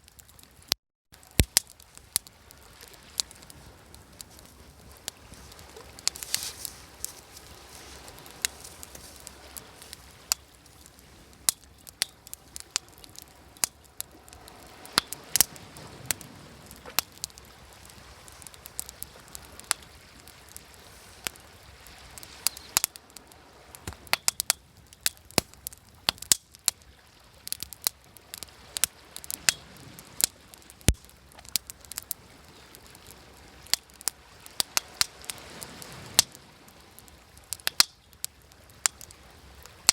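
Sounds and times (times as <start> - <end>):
campfire crackling and popping: 0.0 - 39.9
waves washing: 0.0 - 39.9.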